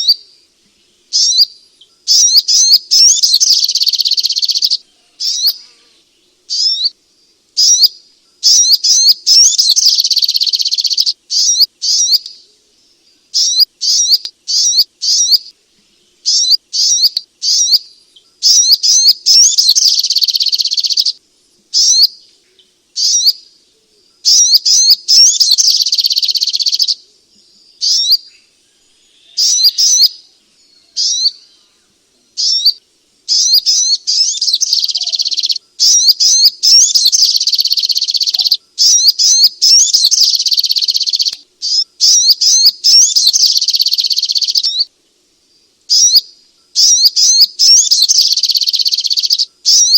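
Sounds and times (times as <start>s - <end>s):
songbird chirping: 0.0s - 49.9s.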